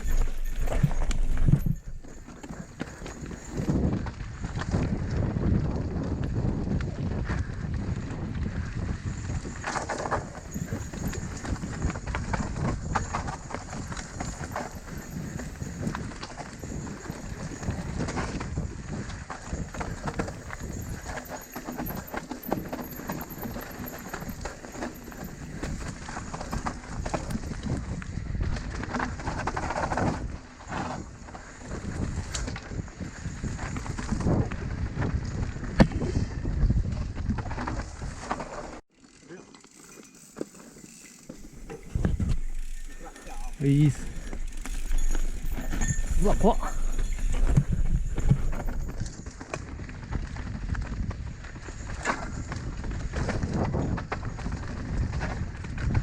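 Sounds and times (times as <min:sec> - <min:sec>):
bike rattling and knocking: 0:00.0 - 0:36.3, 0:39.6 - 0:56.0
bike tyres rumbling on dirt: 0:00.0 - 0:38.8, 0:39.7 - 0:56.0.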